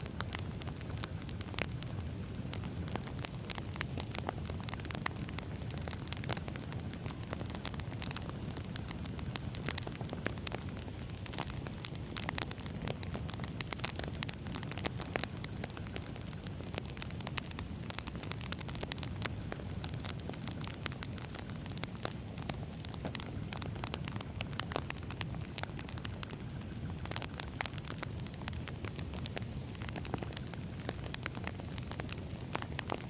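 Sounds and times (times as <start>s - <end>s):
low rumble of flames: 0.0s - 33.0s
sharp pops and snaps: 0.0s - 33.0s
wood fire crackling: 0.0s - 33.0s.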